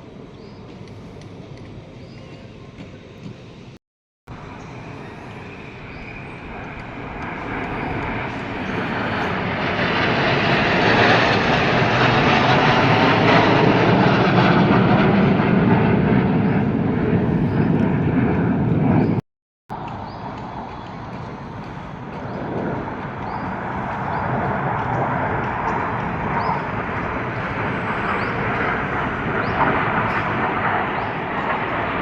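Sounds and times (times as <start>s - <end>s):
jet aircraft engine roar: 0.0s - 32.0s.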